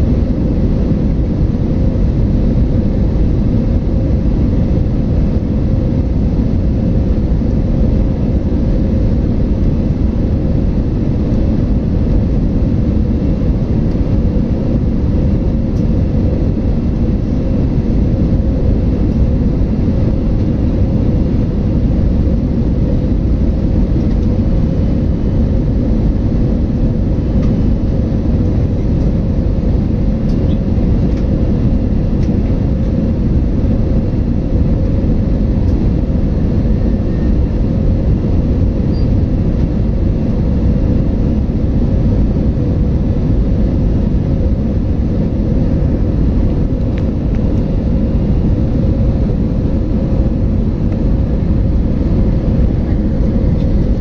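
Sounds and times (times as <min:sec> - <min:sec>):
airliner cabin rumble: 0:00.0 - 0:54.0
faint steady hum: 0:00.0 - 0:54.0.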